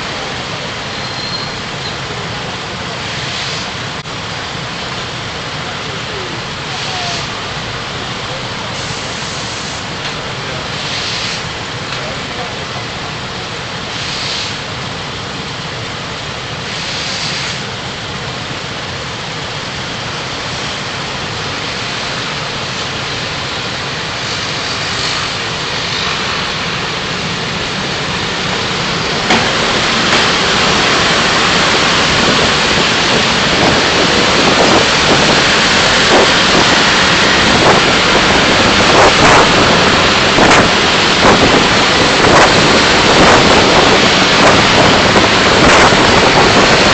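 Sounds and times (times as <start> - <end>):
road and tyre noise: 0.0 - 46.9.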